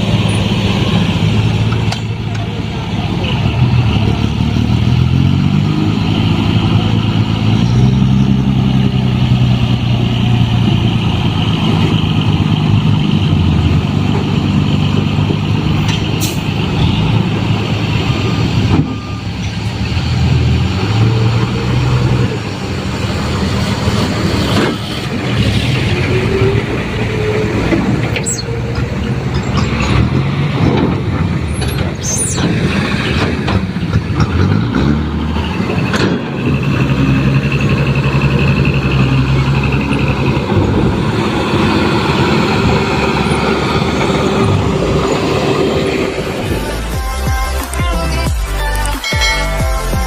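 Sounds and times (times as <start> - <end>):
diesel truck engine revving: 0.0 - 49.0.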